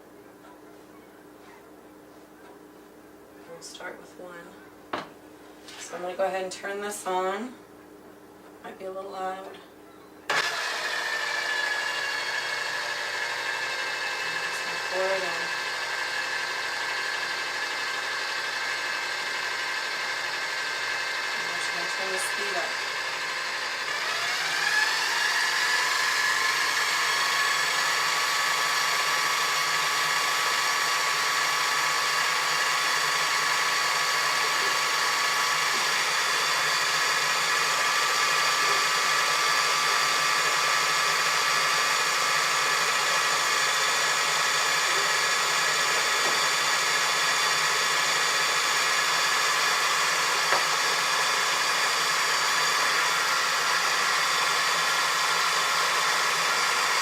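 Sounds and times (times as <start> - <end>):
food processor motor whirring: 10.3 - 57.0.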